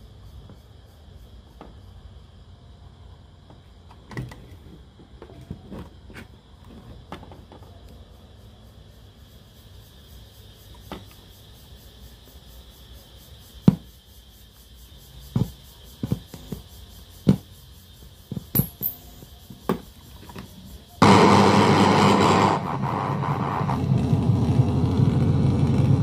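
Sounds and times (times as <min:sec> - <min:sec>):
loud steady hiss: 0:00.0 - 0:04.0, 0:06.0 - 0:26.0.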